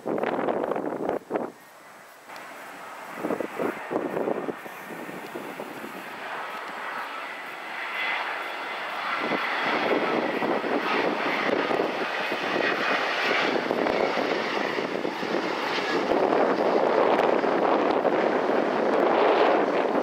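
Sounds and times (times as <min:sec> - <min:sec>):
jet airliner approaching: 0:00.0 - 0:20.0
faint high engine whine: 0:01.1 - 0:20.0.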